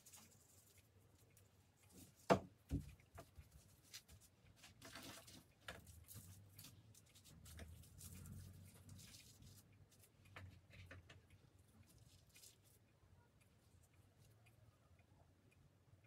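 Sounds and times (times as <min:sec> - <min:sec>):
rustling of food: 0:00.0 - 0:12.9.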